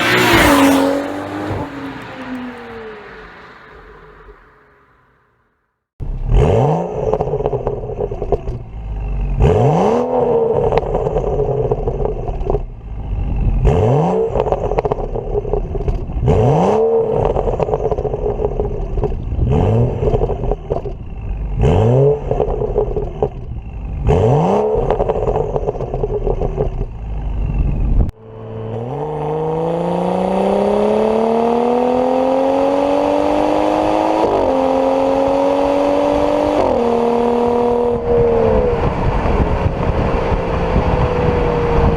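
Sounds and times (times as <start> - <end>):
car engine revving: 0.0 - 5.2, 6.1 - 41.9
engine accelerating: 0.0 - 5.2, 6.1 - 41.9.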